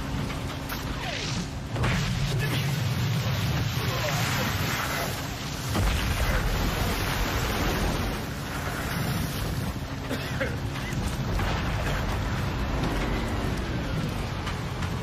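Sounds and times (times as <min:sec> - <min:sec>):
boat engine running: 0:00.0 - 0:15.0
wind: 0:00.0 - 0:15.0
waves against hull: 0:01.7 - 0:15.0.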